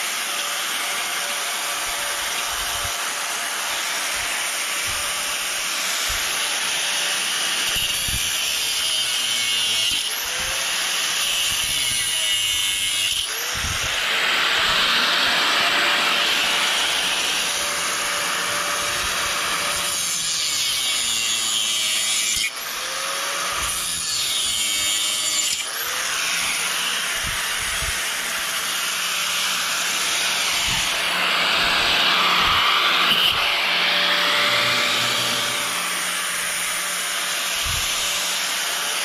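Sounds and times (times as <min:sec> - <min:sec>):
angle grinder cutting steel: 0:00.0 - 0:39.0.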